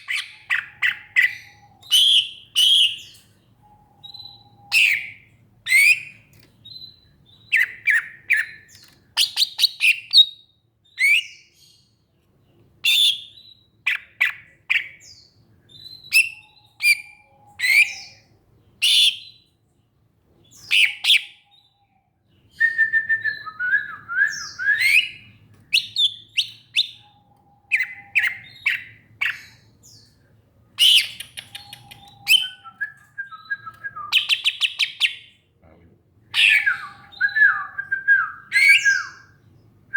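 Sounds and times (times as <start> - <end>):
bird singing: 0.0 - 35.5, 36.3 - 39.9.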